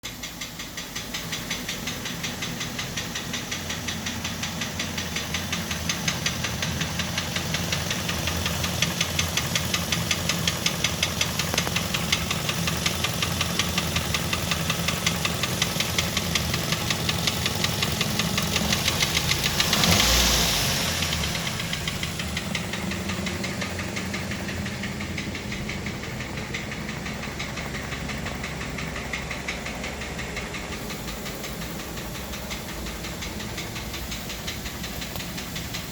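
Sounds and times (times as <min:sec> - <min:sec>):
engine running with rhythmic knock: 0:00.0 - 0:35.9.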